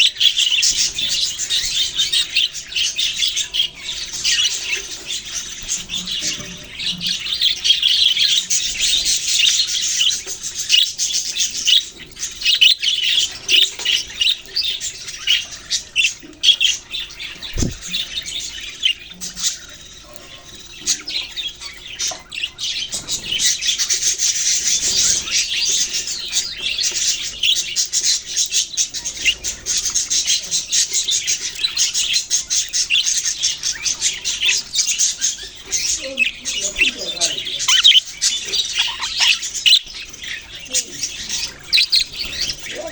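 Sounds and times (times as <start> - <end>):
budgerigars chirping: 0.0 - 42.9.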